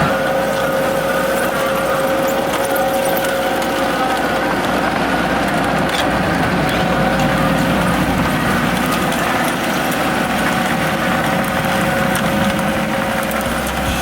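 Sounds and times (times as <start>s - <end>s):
excavator engine running: 0.0s - 14.0s
steady engine whine: 0.0s - 14.0s.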